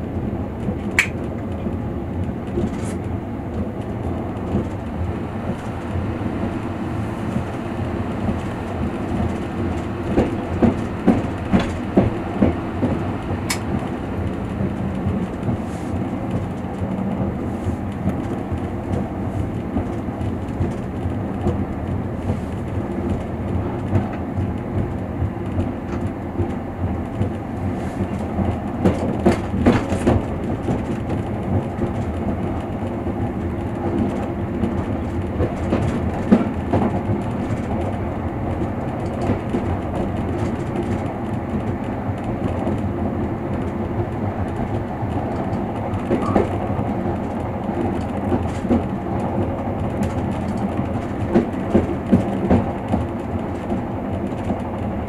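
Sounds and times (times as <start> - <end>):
train wheels clacking over rail joints: 8.2 - 55.0.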